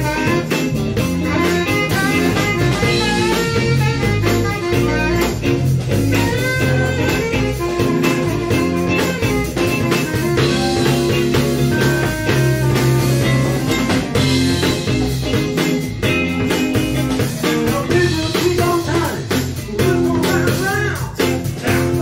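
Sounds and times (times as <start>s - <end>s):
blues rock band playing: 0.0s - 22.0s.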